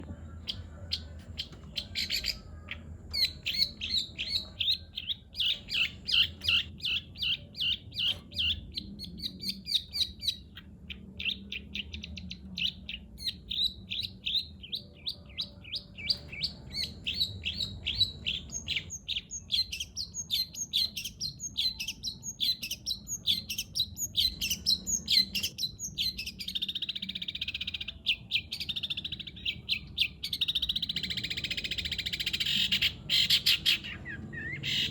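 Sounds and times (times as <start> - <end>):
bird chirping rapidly: 0.4 - 34.9.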